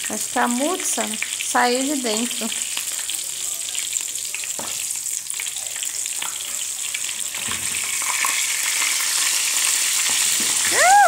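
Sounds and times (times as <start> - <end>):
onion rings sizzling in oil: 0.0 - 11.0.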